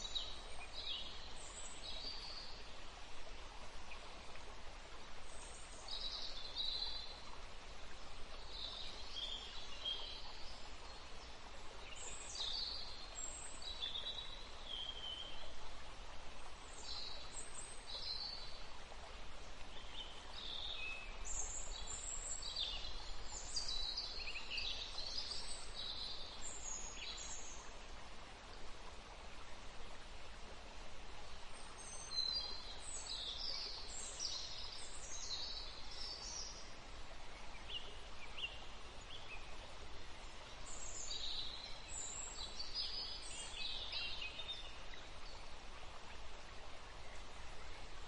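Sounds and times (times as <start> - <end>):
background hiss: 0.0 - 48.0
songbirds chirping: 0.0 - 48.0.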